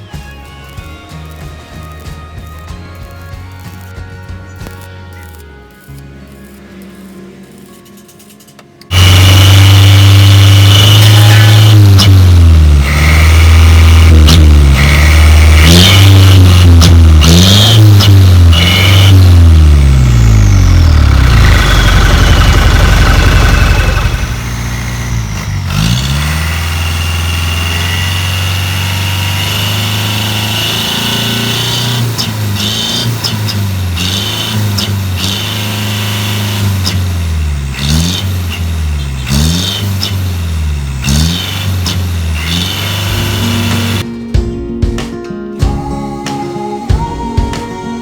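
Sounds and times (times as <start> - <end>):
truck engine revving and idling: 4.6 - 44.0.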